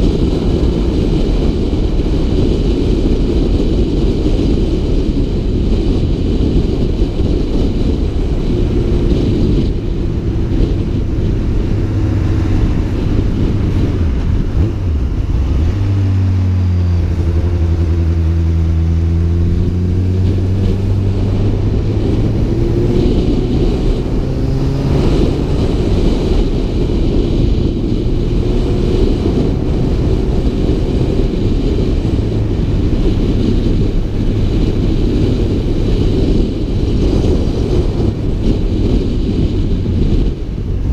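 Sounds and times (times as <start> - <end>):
motorcycle engine: 0.0 - 40.9
wind buffeting the microphone: 0.0 - 40.9.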